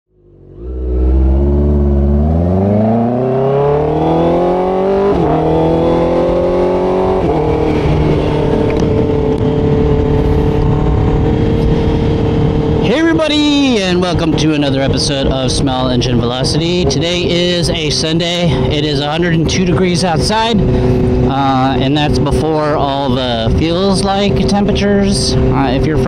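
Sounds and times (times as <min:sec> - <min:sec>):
motorcycle engine accelerating: 0:00.1 - 0:26.0.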